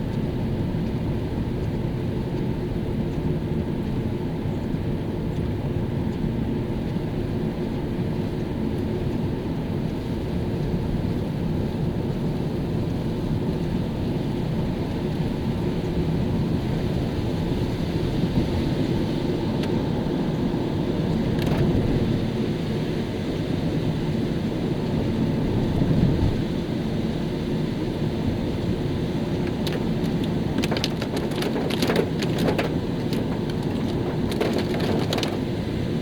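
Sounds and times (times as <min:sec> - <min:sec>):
car tyres and engine rumble: 0:00.0 - 0:36.0.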